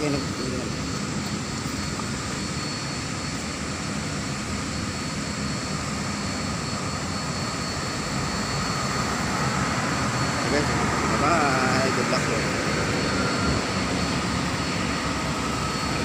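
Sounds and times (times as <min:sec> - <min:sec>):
faint high whine: 0:00.0 - 0:16.0
street traffic drone: 0:00.0 - 0:16.0.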